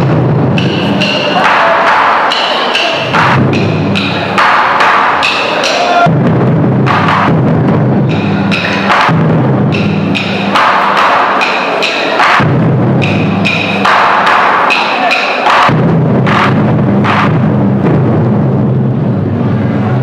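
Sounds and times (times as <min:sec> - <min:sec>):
deep booming drum strokes: 0:00.0 - 0:20.0.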